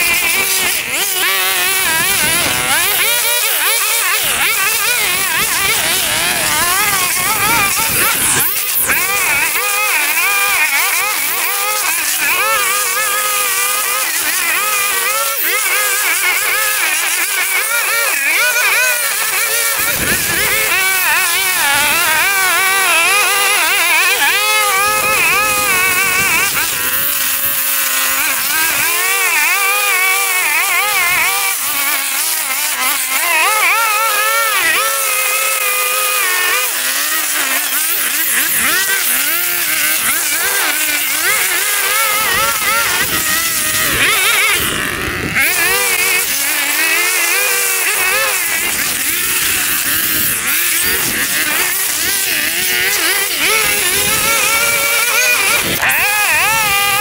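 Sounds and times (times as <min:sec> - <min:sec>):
lawn mower engine cutting grass: 0:00.0 - 0:57.0.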